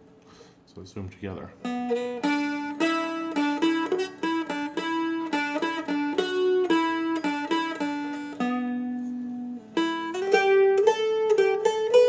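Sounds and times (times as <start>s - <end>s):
flatpicked dulcimer melody: 1.6s - 12.0s.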